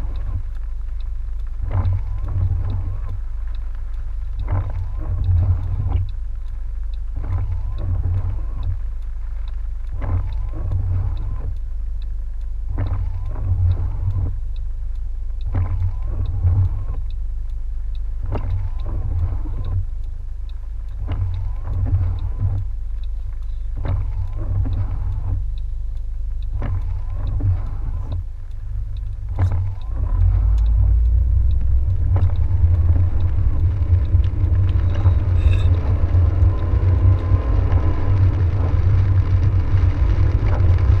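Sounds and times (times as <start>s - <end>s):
car engine idling: 0.0s - 41.0s
windshield wipers sweeping: 0.0s - 41.0s.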